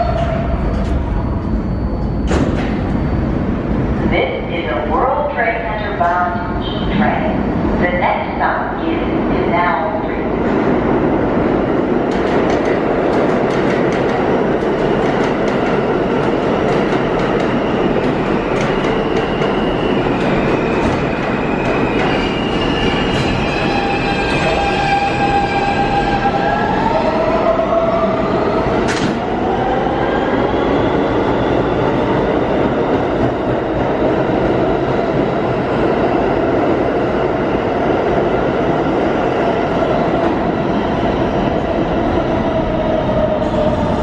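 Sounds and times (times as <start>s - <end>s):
subway train rumbling: 0.0s - 44.0s.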